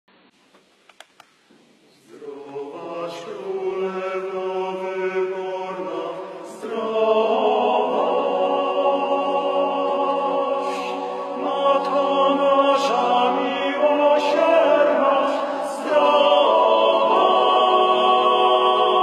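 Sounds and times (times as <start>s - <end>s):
male choir singing a cappella: 2.1s - 19.0s.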